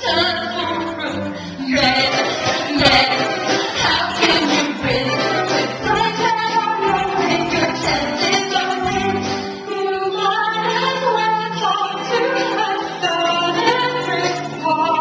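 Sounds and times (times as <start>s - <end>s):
musical accompaniment: 0.0s - 15.0s
singers performing: 0.0s - 15.0s.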